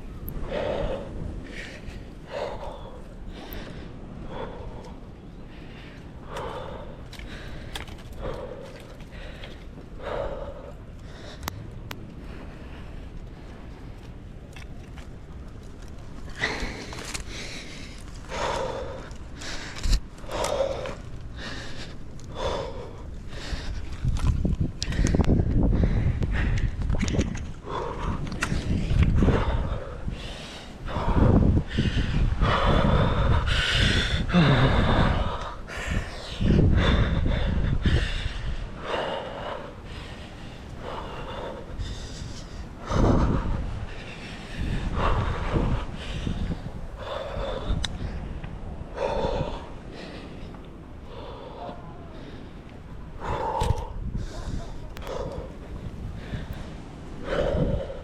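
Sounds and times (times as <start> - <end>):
person breathing hard: 0.4 - 14.2, 15.9 - 58.0.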